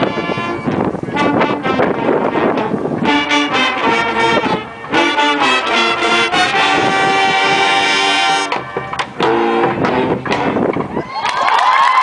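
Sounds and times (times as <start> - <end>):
marching band brass chords: 0.0 - 10.9.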